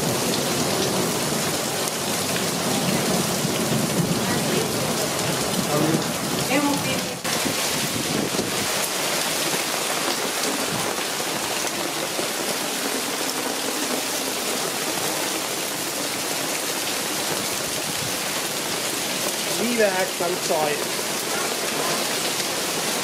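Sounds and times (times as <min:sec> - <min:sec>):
heavy rain on tiles and fence: 0:00.0 - 0:23.0.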